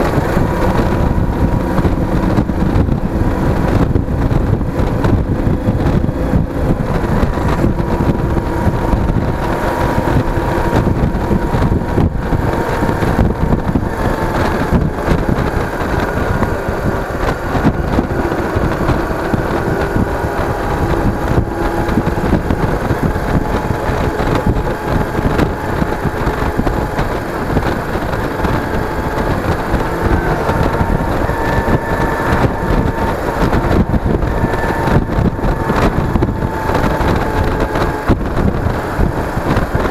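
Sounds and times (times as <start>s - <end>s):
motorcycle engine cruising: 0.0s - 39.9s
wind buffeting on microphone: 0.0s - 39.9s.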